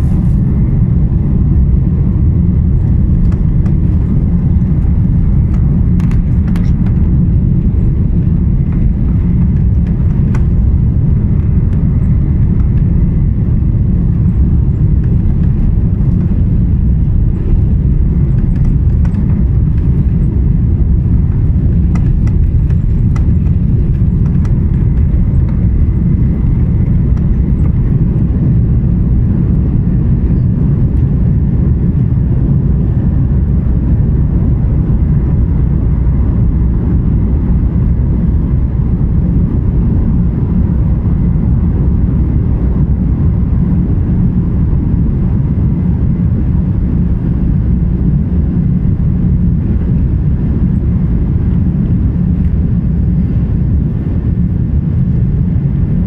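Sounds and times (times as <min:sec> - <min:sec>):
aircraft cabin low rumble: 0:00.0 - 0:56.0.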